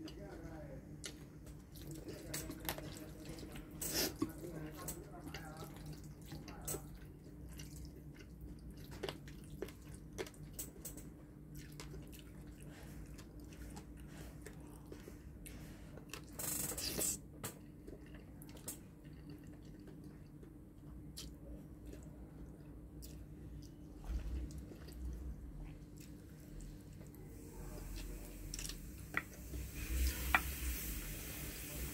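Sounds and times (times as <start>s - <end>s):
chewing: 1.0s - 29.4s.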